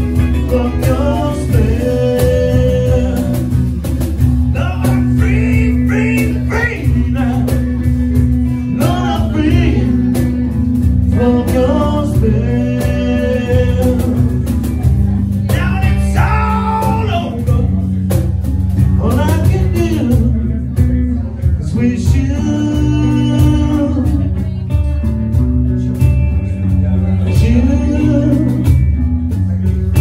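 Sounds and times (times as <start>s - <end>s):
male vocal through microphone: 0.0s - 24.7s, 25.7s - 29.0s
guitar: 0.0s - 30.0s
low bass notes: 0.0s - 30.0s.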